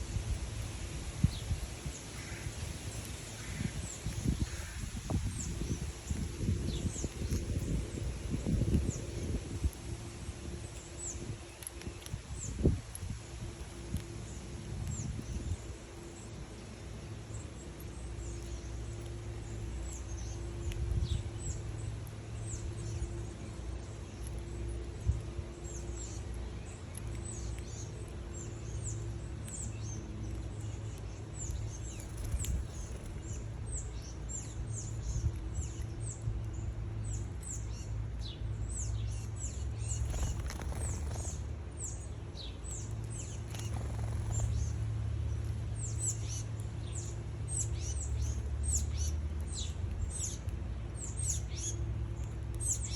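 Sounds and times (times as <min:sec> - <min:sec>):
small birds chirping: 0:00.0 - 0:52.9
steady low rumble: 0:00.0 - 0:52.9.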